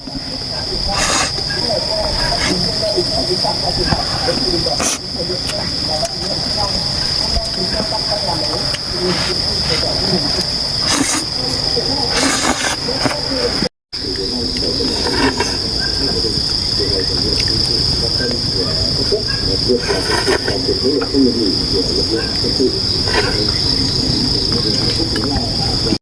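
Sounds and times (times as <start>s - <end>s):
insects droning high-pitched: 0.0s - 26.0s.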